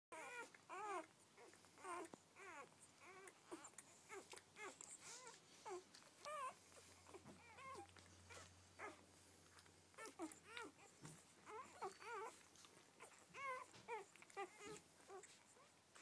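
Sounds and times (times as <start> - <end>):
puppies whimpering and squeaking: 0.1 - 16.0.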